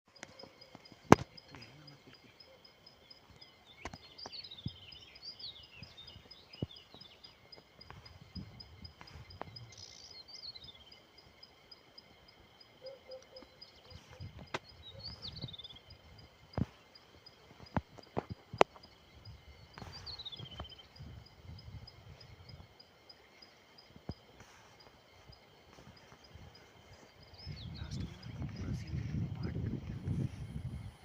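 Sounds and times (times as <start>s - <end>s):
birds twittering: 0.1s - 31.0s.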